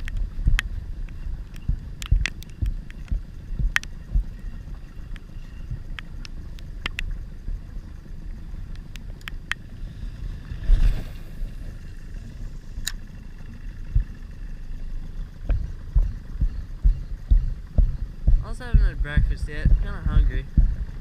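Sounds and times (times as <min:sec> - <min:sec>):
sharp ticks: 0:00.0 - 0:09.8, 0:12.8 - 0:21.0
water lapping around boat: 0:00.0 - 0:21.0
wind rumble on microphone: 0:00.0 - 0:21.0.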